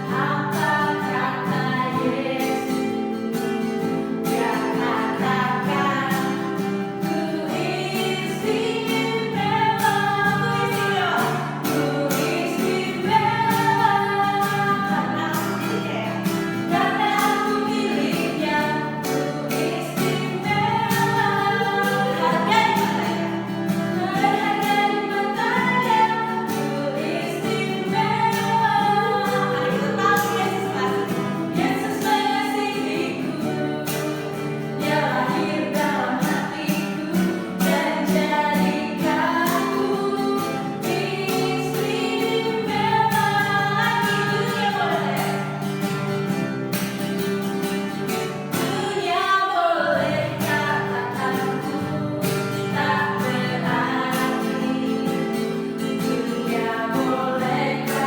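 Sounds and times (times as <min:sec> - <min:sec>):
children singing worship song: 0:00.0 - 0:03.6, 0:04.2 - 0:45.8, 0:48.6 - 0:58.0.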